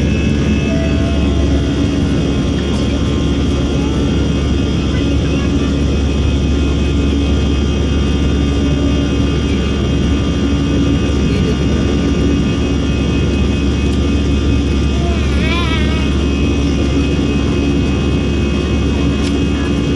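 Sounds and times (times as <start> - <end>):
jet cabin engine drone: 0.0 - 19.9.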